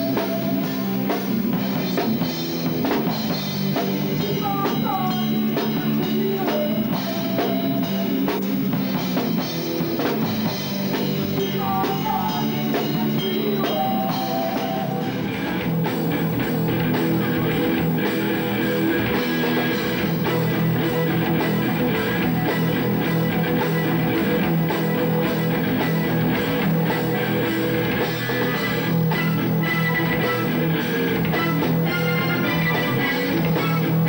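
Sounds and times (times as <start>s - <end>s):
drum kit: 0.0s - 34.0s
electric guitars: 0.0s - 34.0s.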